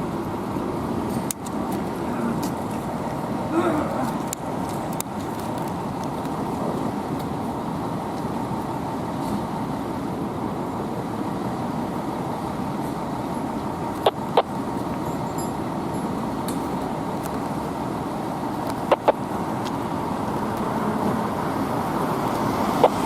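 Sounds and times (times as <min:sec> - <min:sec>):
fire engine running: 0:00.0 - 0:23.0
street traffic noise: 0:00.0 - 0:23.0.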